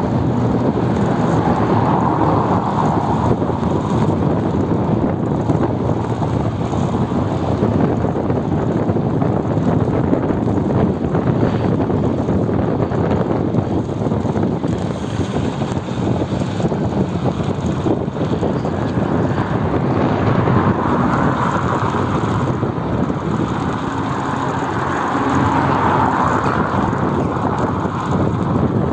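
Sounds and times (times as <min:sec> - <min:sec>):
bicycle tyres rumbling over bricks: 0:00.0 - 0:28.9
road traffic: 0:00.0 - 0:28.9
wind on microphone: 0:00.0 - 0:28.9.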